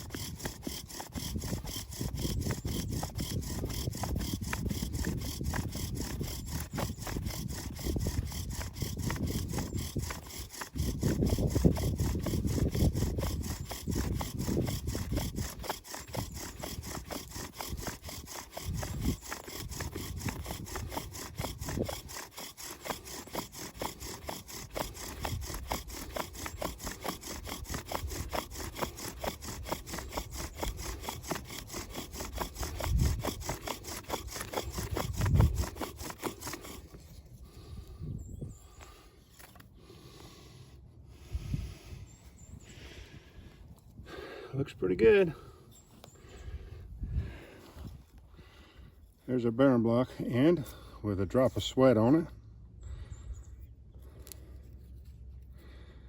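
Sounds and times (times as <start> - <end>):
wood being sawn by hand: 0.0 - 43.1, 44.1 - 52.4.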